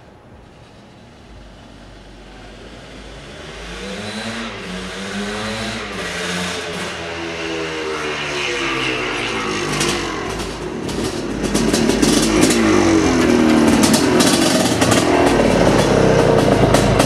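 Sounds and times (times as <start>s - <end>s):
dirt bike engine revving: 2.6s - 17.0s.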